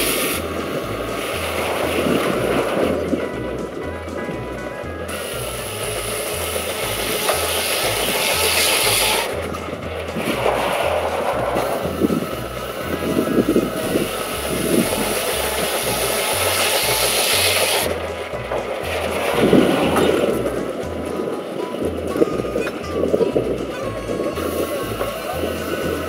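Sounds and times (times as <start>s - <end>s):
saw blade cutting log: 0.0s - 3.7s, 5.0s - 26.0s
steam engine pulsing beat: 0.0s - 26.0s.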